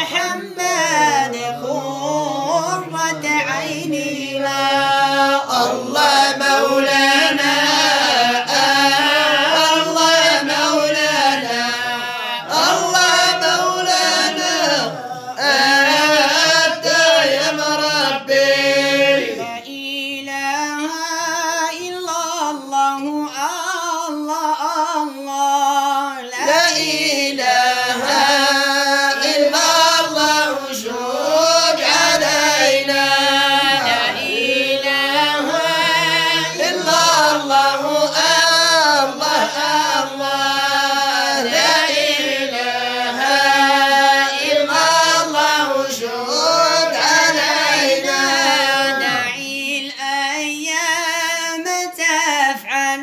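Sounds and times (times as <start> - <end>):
person singing unaccompanied: 0.0 - 53.0.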